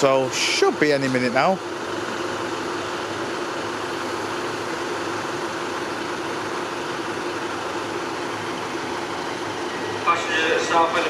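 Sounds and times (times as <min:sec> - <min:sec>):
diesel train engine idling: 0:00.0 - 0:11.0.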